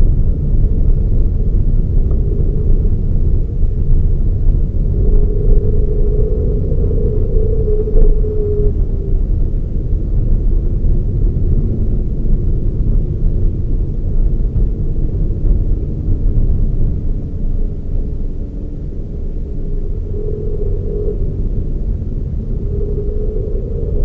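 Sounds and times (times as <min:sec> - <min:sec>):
engine and road noise rumble: 0:00.0 - 0:24.0
faint steady whine: 0:00.0 - 0:24.0.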